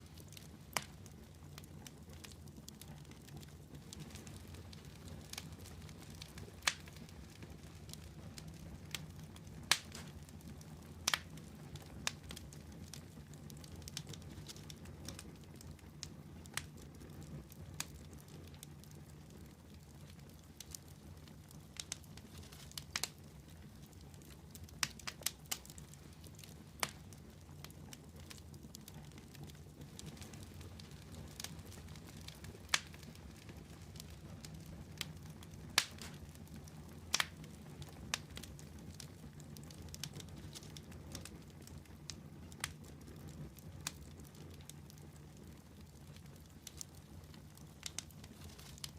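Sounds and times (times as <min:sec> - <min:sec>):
flames rushing in fireplace: 0:00.0 - 0:48.9
logs crackling and popping: 0:00.0 - 0:48.9.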